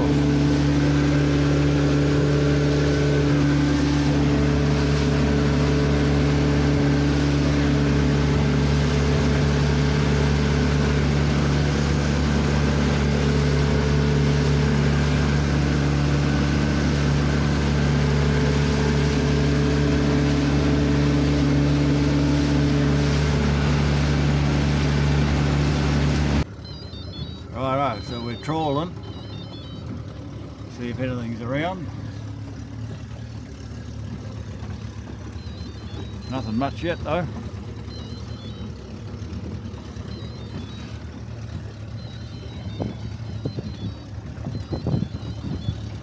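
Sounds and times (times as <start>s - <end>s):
outboard motor drone: 0.0s - 46.0s.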